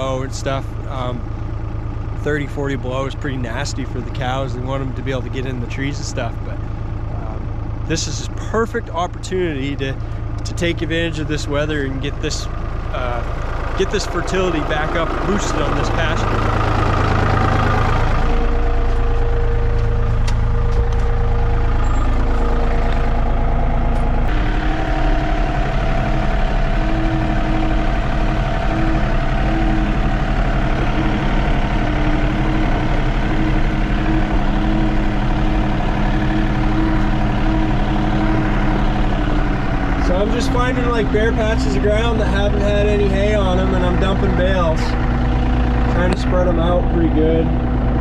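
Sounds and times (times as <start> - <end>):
diesel tractor engine running: 0.0 - 48.0.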